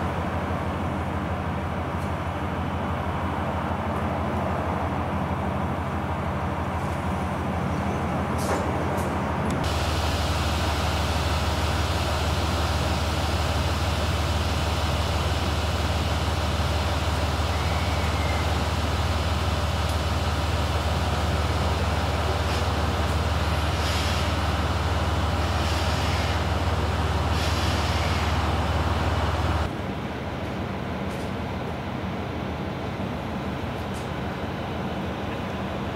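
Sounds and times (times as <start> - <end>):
train running: 0.0 - 35.9.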